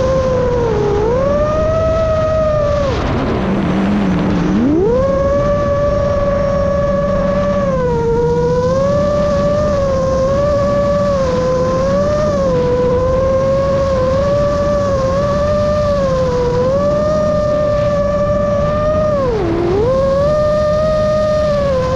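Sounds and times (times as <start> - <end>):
quadcopter motors whining: 0.0 - 21.9
rush of air: 0.0 - 21.9.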